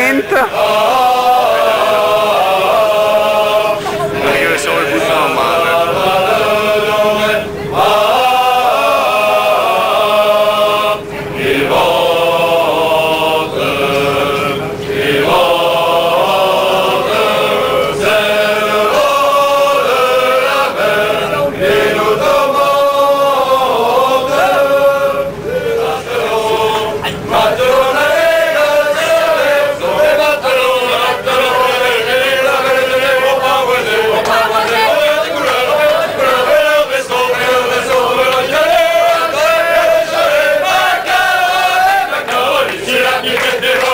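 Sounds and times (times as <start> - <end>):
group singing a chant: 0.0 - 43.9.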